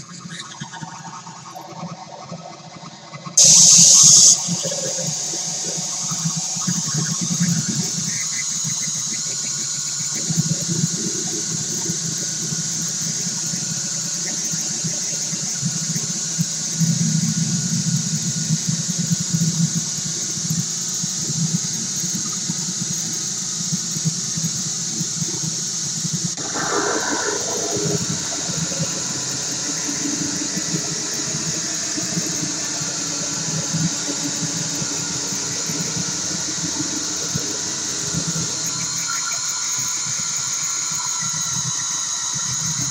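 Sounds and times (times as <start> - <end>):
buzzing synth drone: 0.8 - 42.9.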